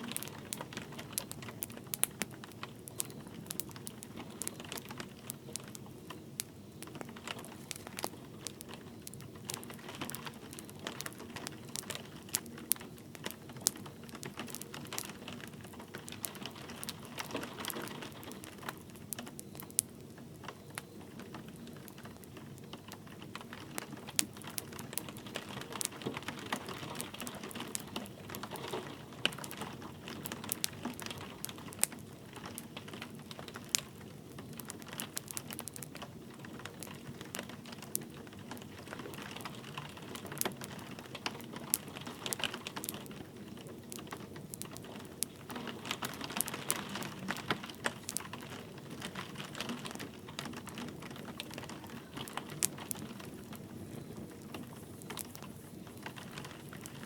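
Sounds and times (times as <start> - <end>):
light rain hiss: 0.0 - 57.0
wood fire crackling: 0.0 - 57.0.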